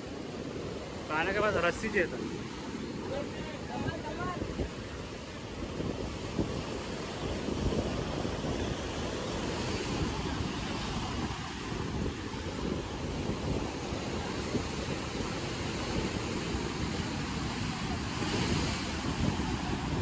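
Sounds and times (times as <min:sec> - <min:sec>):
sea surf breaking over rocks: 0:00.0 - 0:20.0
wind buffeting microphone: 0:00.0 - 0:20.0.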